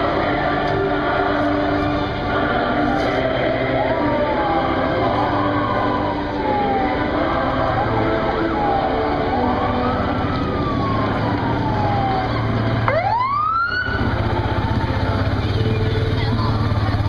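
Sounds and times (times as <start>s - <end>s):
emergency siren wailing: 0.0s - 17.0s
low engine rumble: 0.0s - 17.0s
small vehicle engine running close: 0.0s - 17.0s.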